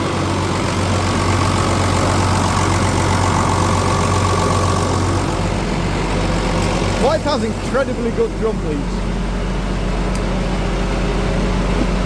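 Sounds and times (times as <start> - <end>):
diesel tractor idling: 0.0 - 12.0.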